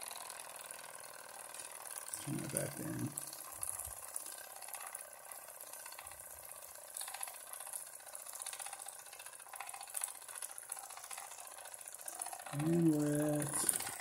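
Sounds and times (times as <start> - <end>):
toy steam engine ticking: 0.0 - 14.0.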